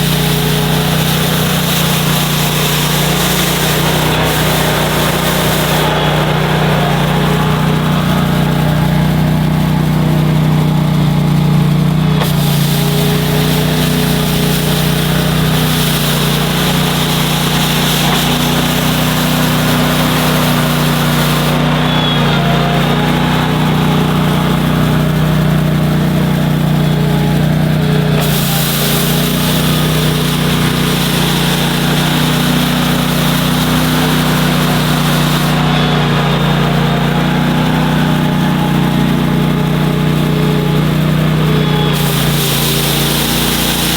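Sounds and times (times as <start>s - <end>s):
engine humming: 0.0s - 43.9s
rotary broom sweeping snow: 0.0s - 43.9s.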